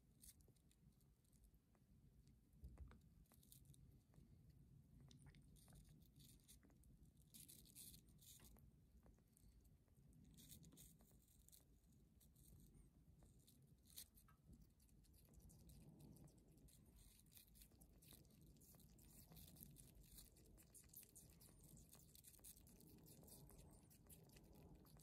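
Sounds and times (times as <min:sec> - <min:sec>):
faint crunching of fruit: 0:00.0 - 0:25.0.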